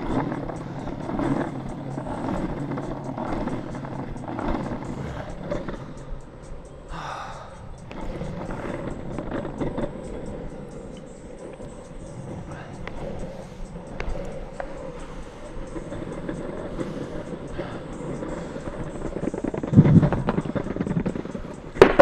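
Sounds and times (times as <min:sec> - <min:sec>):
longboard wheels rolling on pavement: 0:00.0 - 0:22.0.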